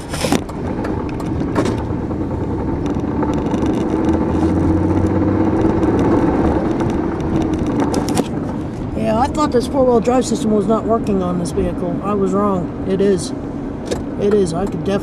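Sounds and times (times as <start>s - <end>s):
truck engine pulling: 0.0s - 15.0s.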